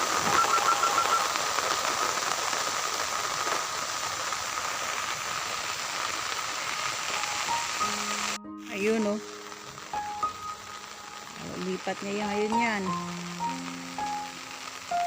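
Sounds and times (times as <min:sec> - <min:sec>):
heavy rain on water: 0:00.0 - 0:15.0.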